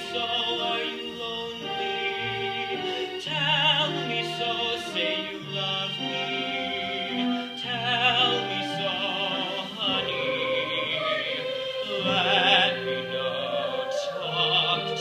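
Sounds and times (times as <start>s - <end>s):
instrumental accompaniment: 0.0s - 15.0s
man singing with vibrato: 0.0s - 15.0s.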